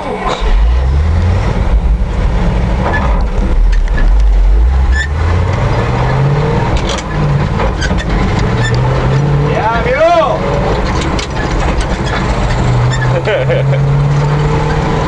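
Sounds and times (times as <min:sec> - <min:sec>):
truck engine accelerating through gears: 0:00.0 - 0:15.0.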